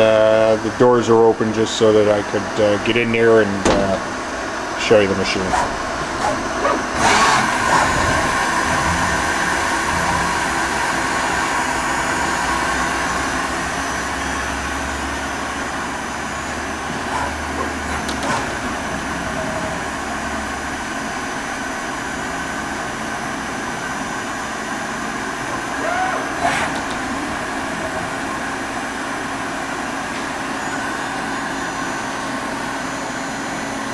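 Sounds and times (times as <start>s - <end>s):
machine whine with high tones: 3.6s - 33.9s.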